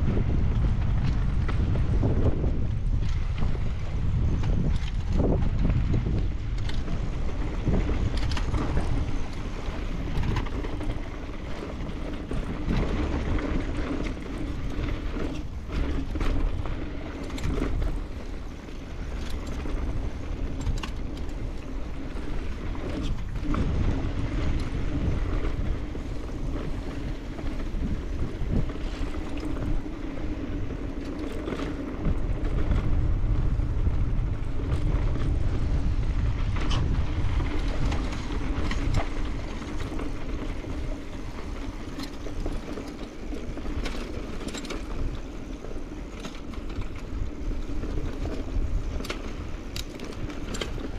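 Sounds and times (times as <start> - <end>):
bike knocks and rattles: 0.0 - 50.9
bike tyres rolling on dirt: 0.0 - 50.9
wind rushing over microphone: 0.0 - 50.9.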